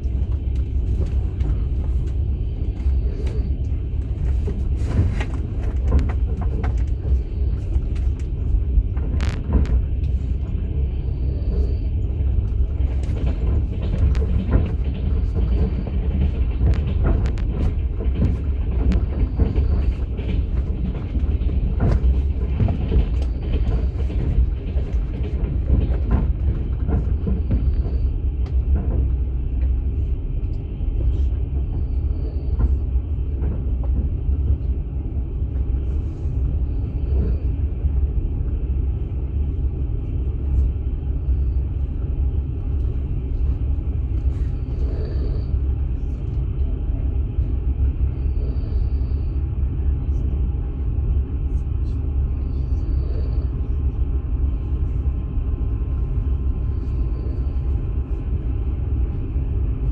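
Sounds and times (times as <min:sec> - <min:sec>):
train carriage rumbling on rails: 0:00.0 - 0:59.9
wheels clicking on track: 0:00.0 - 0:59.9.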